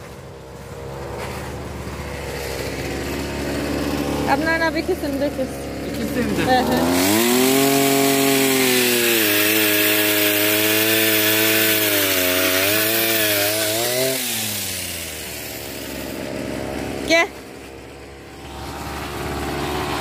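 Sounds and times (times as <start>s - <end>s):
chainsaw revving while cutting: 1.0s - 20.0s.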